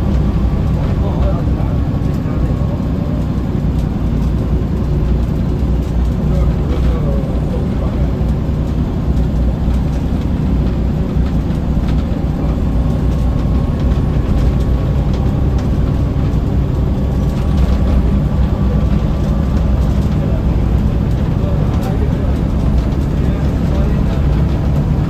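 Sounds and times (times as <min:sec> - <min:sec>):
bus engine rumble: 0:00.0 - 0:25.0
light rattles: 0:00.0 - 0:25.0.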